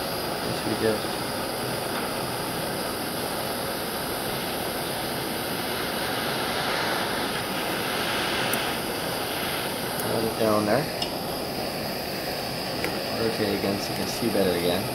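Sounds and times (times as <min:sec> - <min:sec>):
gas torch hissing: 0:00.0 - 0:14.9.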